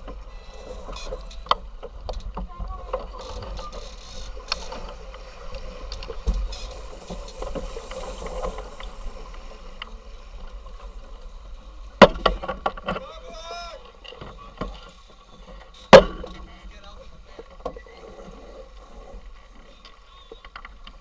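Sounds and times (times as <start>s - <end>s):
wind and water rushing: 0.0s - 21.0s.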